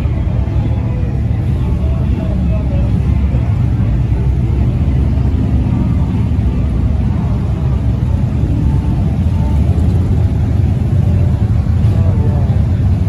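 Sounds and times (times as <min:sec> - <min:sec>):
faint crowd voices: 0:00.0 - 0:13.0
motorcycle engines rumbling: 0:00.0 - 0:13.0.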